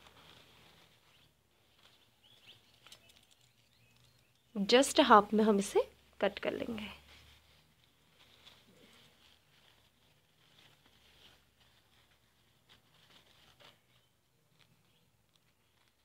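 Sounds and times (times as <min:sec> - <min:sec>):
tissue paper rustling: 0:00.0 - 0:16.0.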